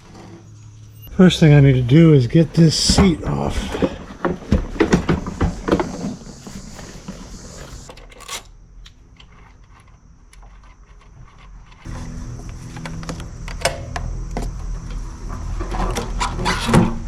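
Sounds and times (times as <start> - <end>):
steady low hum: 0.2 - 17.0.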